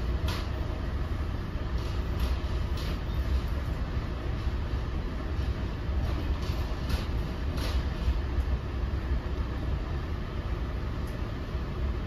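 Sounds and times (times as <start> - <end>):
train coach low rumble: 0.0 - 12.0.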